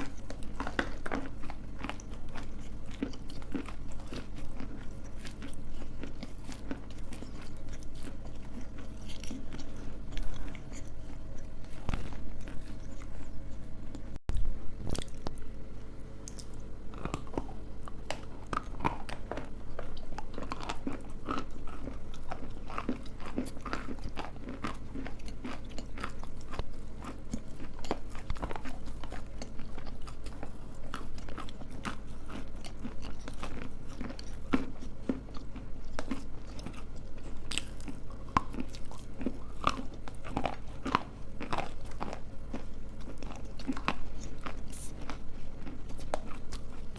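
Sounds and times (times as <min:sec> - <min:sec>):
clay being chewed: 0:00.0 - 0:46.9.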